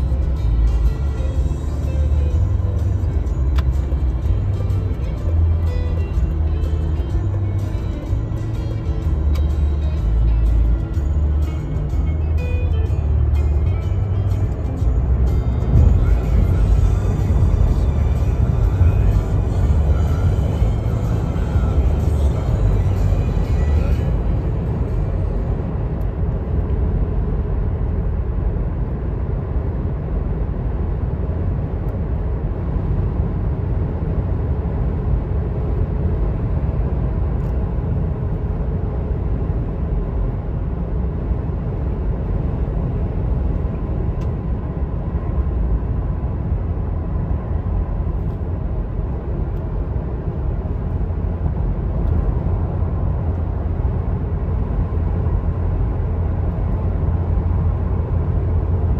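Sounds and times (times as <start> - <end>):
car interior road rumble: 0.0 - 58.9.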